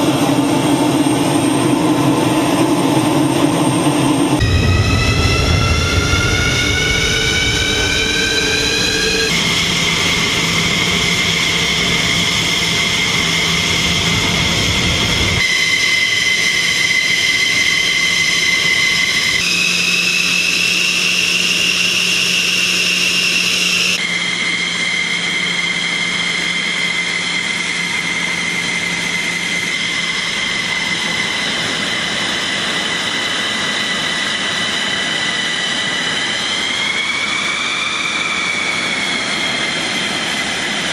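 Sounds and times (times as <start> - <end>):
jet engine turbine whine: 0.0 - 40.9.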